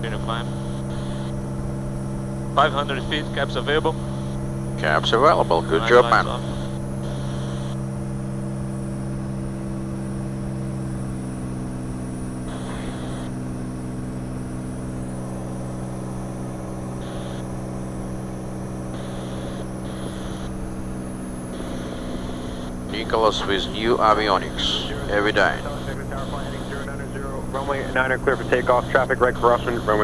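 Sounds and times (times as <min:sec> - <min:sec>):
aircraft engine and propeller drone: 0:00.0 - 0:30.0.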